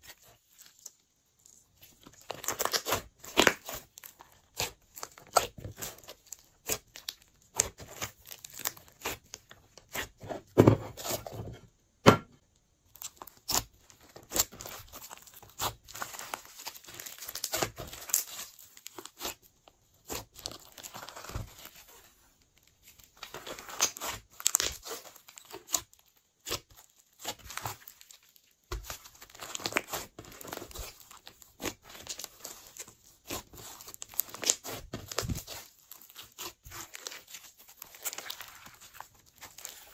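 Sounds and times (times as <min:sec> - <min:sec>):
slime crackling and popping: 0:00.1 - 0:10.2, 0:12.8 - 0:21.8, 0:22.7 - 0:39.9.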